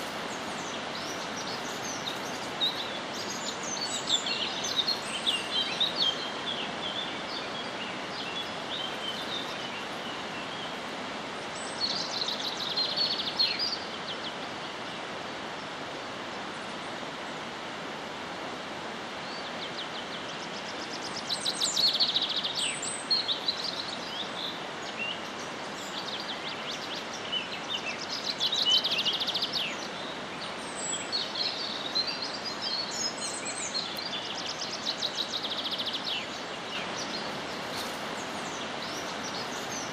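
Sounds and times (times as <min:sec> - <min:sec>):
birds singing and chirping: 0:00.0 - 0:14.4, 0:19.3 - 0:39.9
outdoor ambient hiss: 0:00.0 - 0:39.9.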